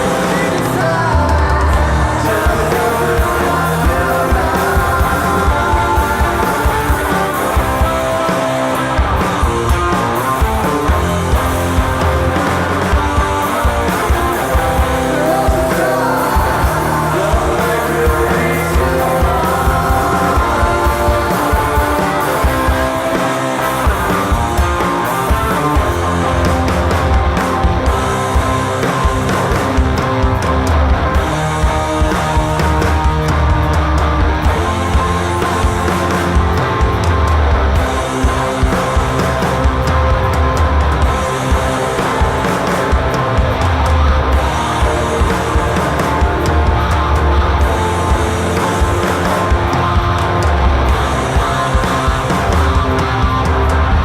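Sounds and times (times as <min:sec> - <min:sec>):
distorted electric guitars: 0:00.0 - 0:54.0
rock band playing live: 0:00.0 - 0:54.0.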